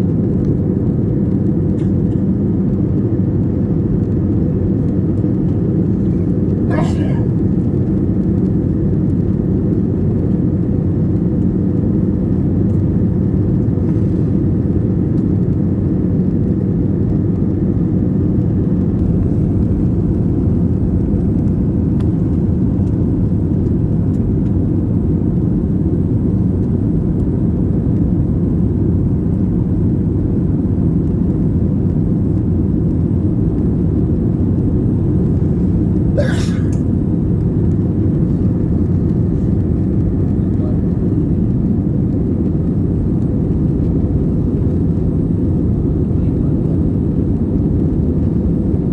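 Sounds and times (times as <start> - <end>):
airplane cabin engine rumble: 0.0 - 48.9.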